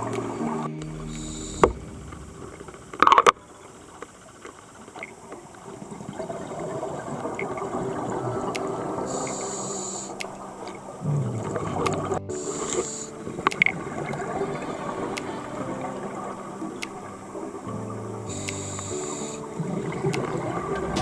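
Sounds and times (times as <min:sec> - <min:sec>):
underwater water noise: 0:00.0 - 0:21.0.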